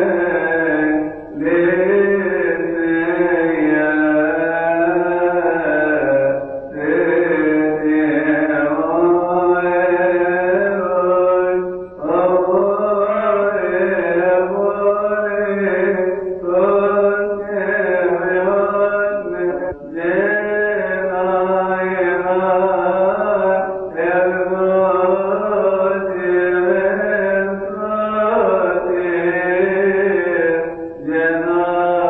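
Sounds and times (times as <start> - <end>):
man chanting: 0.0 - 32.0.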